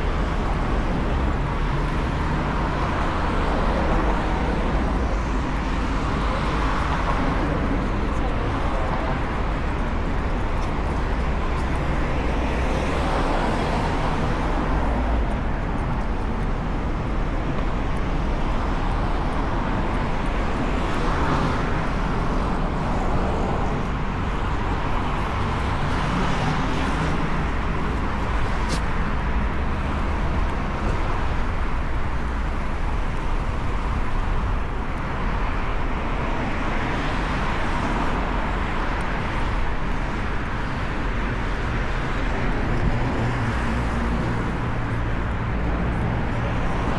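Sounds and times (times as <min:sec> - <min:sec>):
traffic rumble: 0:00.0 - 0:46.9
vehicles passing: 0:00.0 - 0:46.9.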